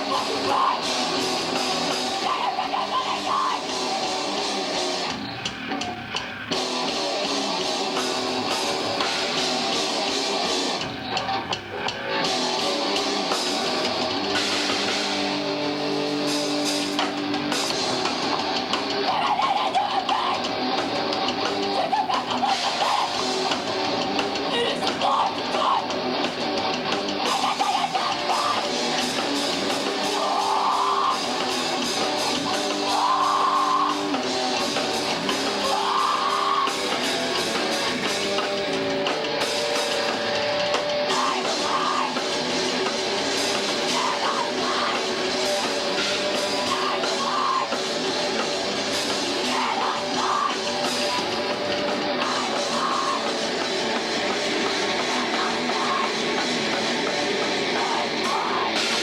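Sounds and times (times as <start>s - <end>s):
drum kit: 0.0s - 59.0s
electric guitar: 0.0s - 59.0s
rock band playing: 0.0s - 59.0s.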